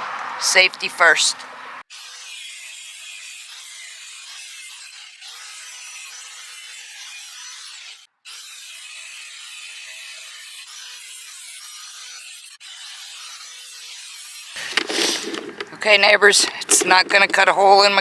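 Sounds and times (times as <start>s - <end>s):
tool cutting with rasping hiss: 1.9s - 18.0s.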